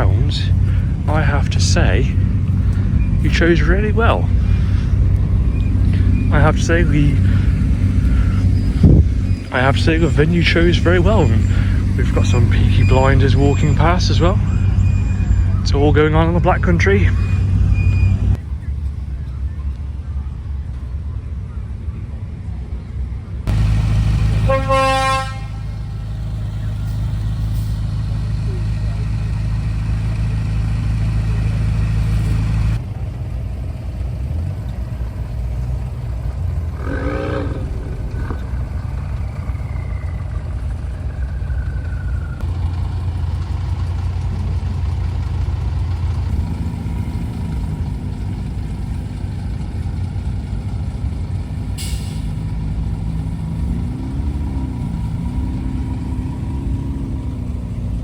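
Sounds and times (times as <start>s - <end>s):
car engine revving: 0.0s - 18.4s, 23.5s - 32.8s, 35.6s - 58.0s
car engines in traffic: 0.0s - 58.0s.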